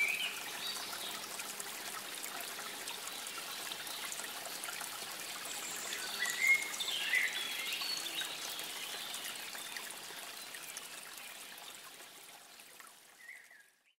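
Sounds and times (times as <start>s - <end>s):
trickling water: 0.0s - 14.0s.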